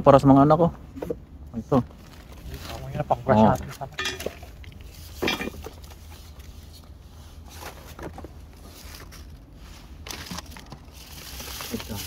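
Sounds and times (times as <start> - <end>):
rustling and scraping of items: 0.7 - 12.0.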